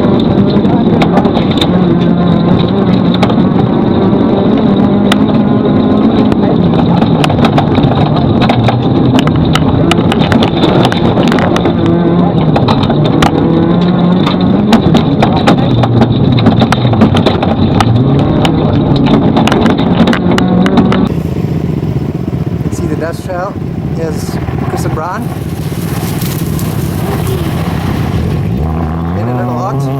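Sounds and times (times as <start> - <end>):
rally car engine revving: 0.0 - 29.9
sharp clicks and rattles: 0.0 - 29.9.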